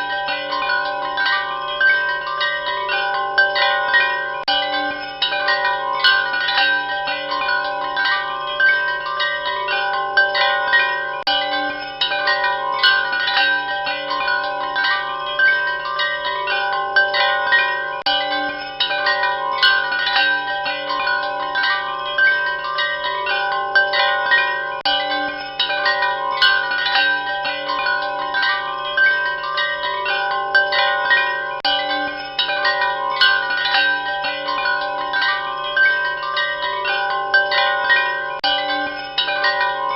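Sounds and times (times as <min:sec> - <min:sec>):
metal wind chimes ringing: 0:00.0 - 0:39.9.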